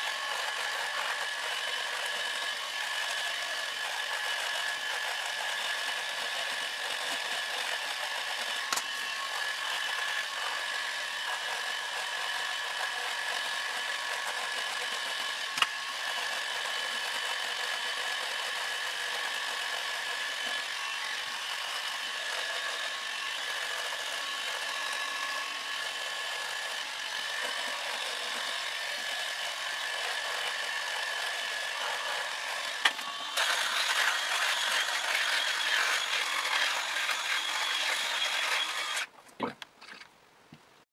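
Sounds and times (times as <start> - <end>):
electric shaver whining: 0.0 - 39.1.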